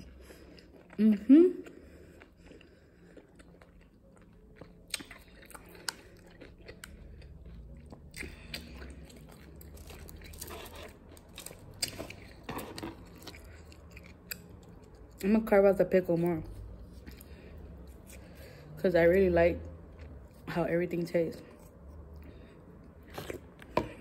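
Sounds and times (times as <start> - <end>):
close-mic chewing and crunching: 0.0 - 24.0.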